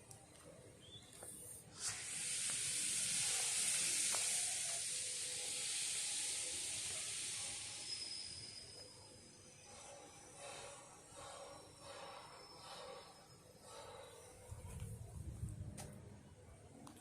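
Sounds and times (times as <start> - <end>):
steam locomotive hissing steam: 1.3 - 15.4.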